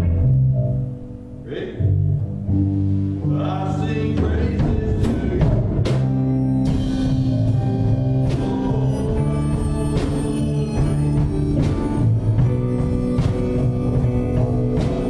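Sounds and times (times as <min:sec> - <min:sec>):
band playing a worship song: 0:01.4 - 0:01.8, 0:02.9 - 0:15.0.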